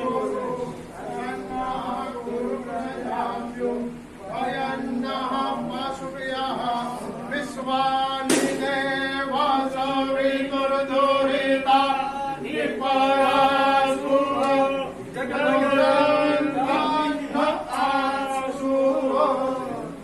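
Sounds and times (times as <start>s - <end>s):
group chanting a prayer: 0.0s - 20.0s.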